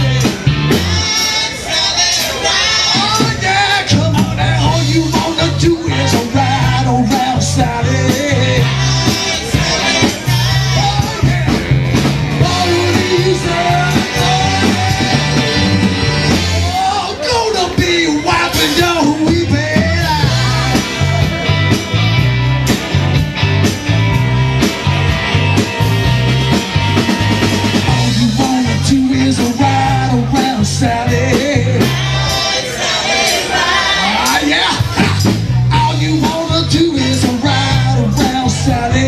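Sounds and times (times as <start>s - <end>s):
person singing: 0.0s - 21.9s, 27.7s - 32.8s, 33.4s - 39.0s
bass line: 0.0s - 39.0s
rock band playing: 0.0s - 39.0s.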